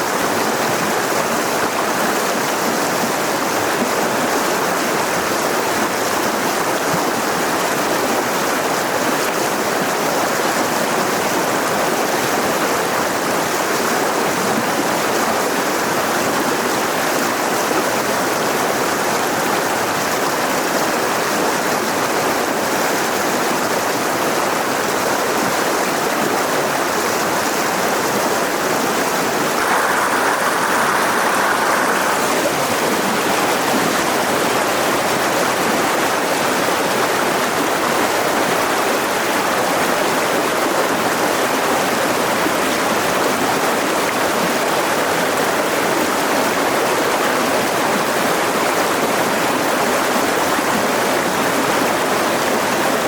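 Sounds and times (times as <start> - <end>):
river rushing over rocks: 0.0 - 53.0.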